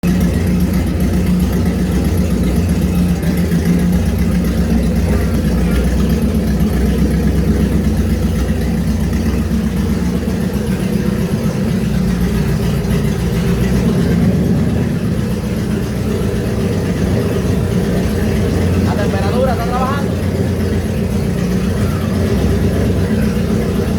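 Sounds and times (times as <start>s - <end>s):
boat engine idling: 0.0s - 23.9s.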